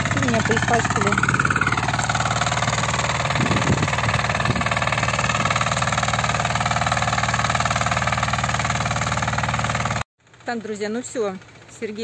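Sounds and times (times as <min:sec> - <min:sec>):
walk-behind tractor engine running: 0:00.0 - 0:12.0.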